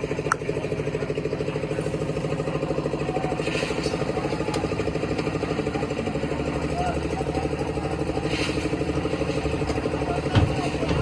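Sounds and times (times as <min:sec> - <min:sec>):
machinery engine pulsing: 0:00.0 - 0:11.0.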